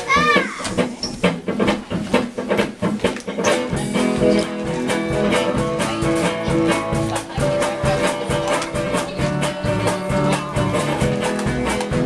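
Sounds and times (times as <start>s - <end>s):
band playing upbeat dance music: 0.0s - 12.0s.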